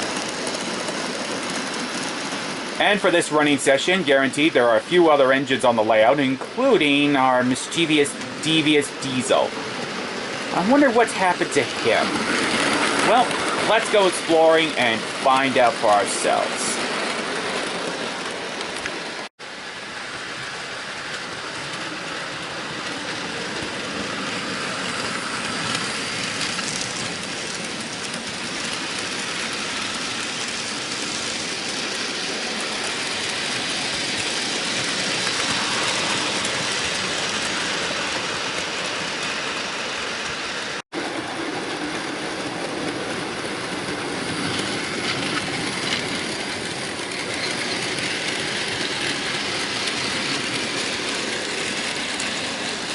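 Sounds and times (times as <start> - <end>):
wheels clattering over rails: 0.0 - 19.3, 20.3 - 52.9.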